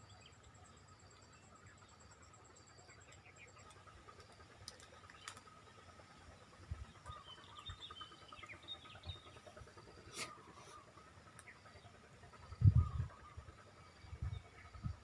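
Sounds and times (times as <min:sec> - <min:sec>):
bird twittering: 0:02.8 - 0:15.0.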